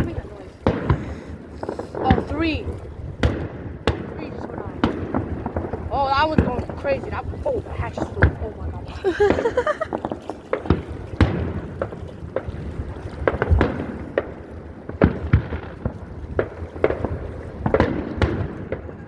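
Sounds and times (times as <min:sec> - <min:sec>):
firework shells bursting: 0:00.0 - 0:19.0.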